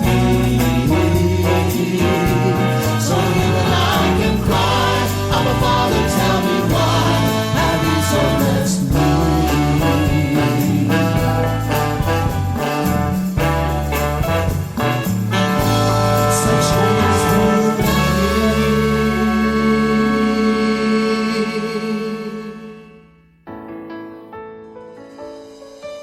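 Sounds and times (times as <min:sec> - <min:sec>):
gospel choir with band: 0:00.0 - 0:23.0.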